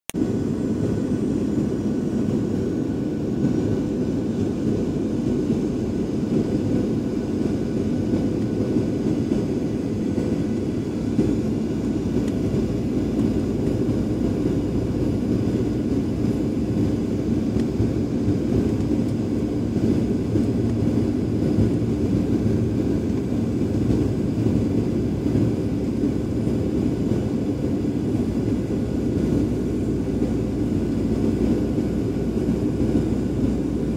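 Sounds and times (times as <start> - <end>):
jet engine rumble in cabin: 0.2 - 33.9.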